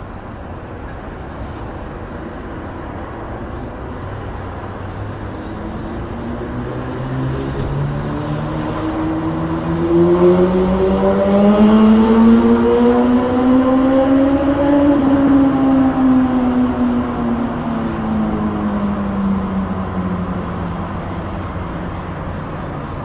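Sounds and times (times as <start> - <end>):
motorway traffic rumble: 0.0 - 23.0
vehicle engine accelerating: 0.0 - 23.0.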